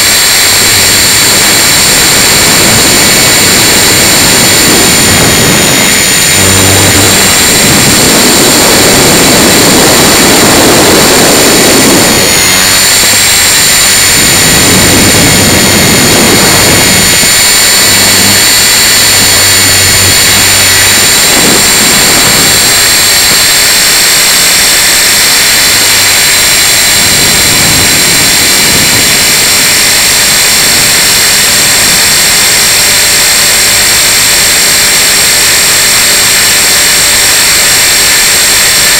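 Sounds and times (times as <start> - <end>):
gusty wind noise: 0.0 - 38.9
rc helicopter motor whine: 0.0 - 38.9
rotor rushing noise: 0.0 - 38.9.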